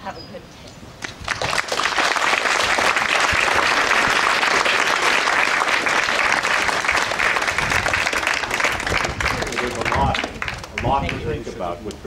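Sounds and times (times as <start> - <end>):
audience applauding: 1.0 - 11.3.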